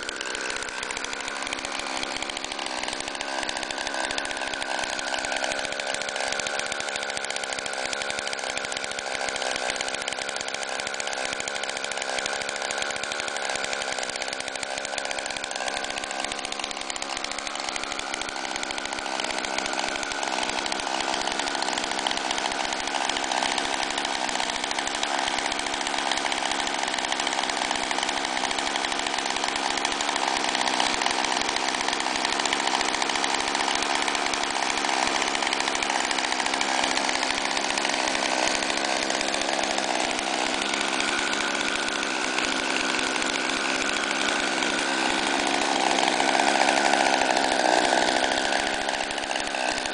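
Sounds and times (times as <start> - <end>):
go-kart engine running: 0.0 - 49.9.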